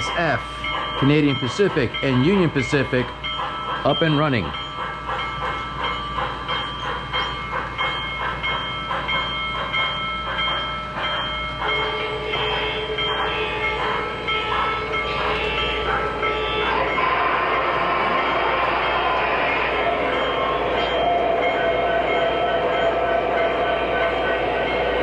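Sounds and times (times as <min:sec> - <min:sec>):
steam locomotive chuffing: 0:00.0 - 0:25.0
wheels rattling on track: 0:00.0 - 0:25.0.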